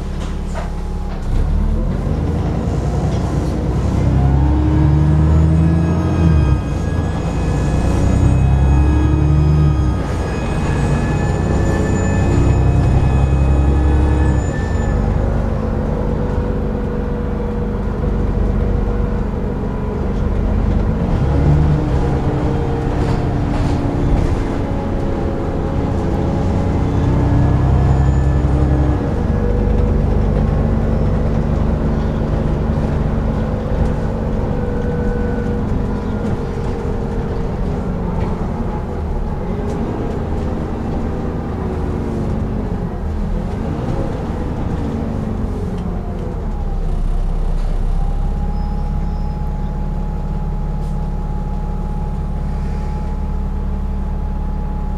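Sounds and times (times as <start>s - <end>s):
bus diesel engine running: 0.0s - 54.9s
engine whine: 0.0s - 54.9s.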